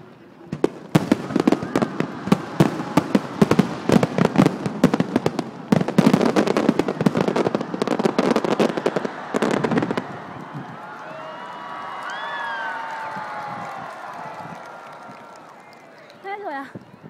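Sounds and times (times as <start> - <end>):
fireworks crackling and popping: 0.1 - 17.0.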